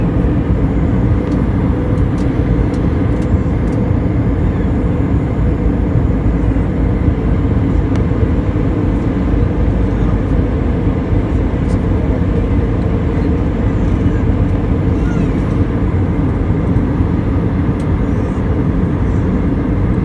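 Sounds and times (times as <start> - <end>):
airliner cabin engine rush: 0.0 - 20.0.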